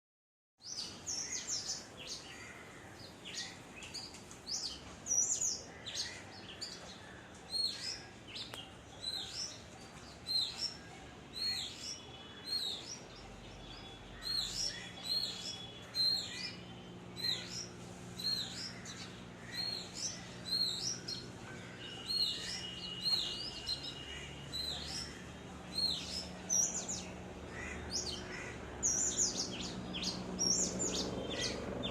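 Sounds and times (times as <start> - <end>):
small birds chirping: 0.6 - 31.9.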